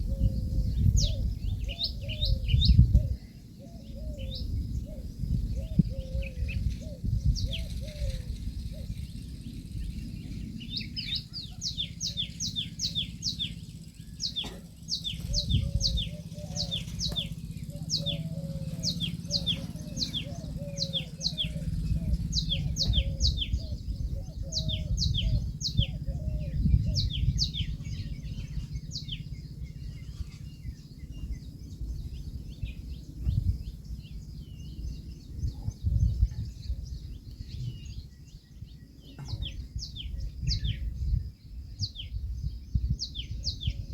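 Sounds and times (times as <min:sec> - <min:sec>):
low uneven rumble: 0:00.0 - 0:43.6
birds chirping downward notes: 0:00.0 - 0:43.9.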